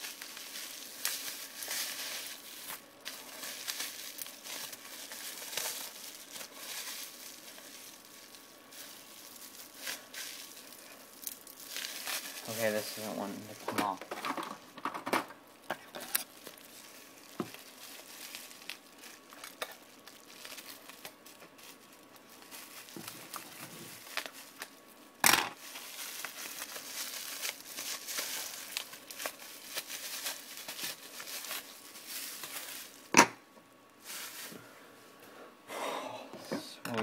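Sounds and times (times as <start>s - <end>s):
plastic packaging crinkling: 0.0s - 33.2s, 34.0s - 34.6s.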